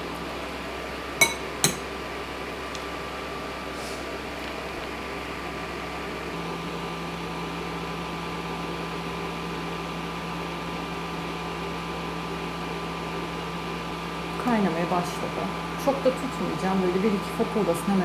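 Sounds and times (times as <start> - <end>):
cooktop fan hum: 0.0 - 18.0.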